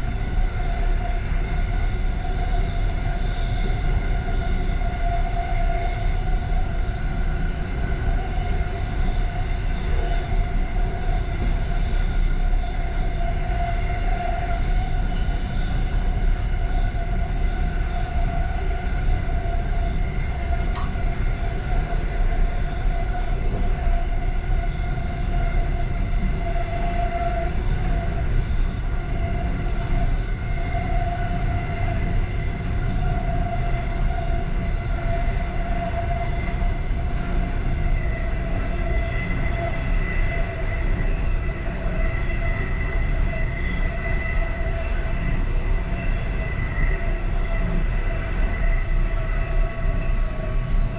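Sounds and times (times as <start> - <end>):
steady whine: 0.0 - 50.9
train rolling rumble: 0.0 - 50.9.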